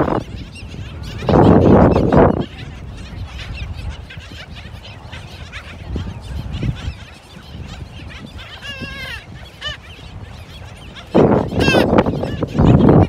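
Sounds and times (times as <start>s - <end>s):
birds yapping and chirping: 0.0s - 13.0s.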